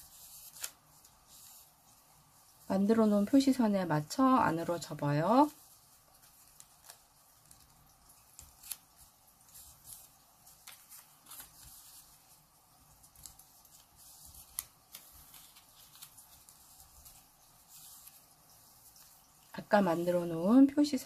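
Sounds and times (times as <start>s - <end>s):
paper being folded and creased: 0.0s - 2.7s, 4.7s - 19.7s.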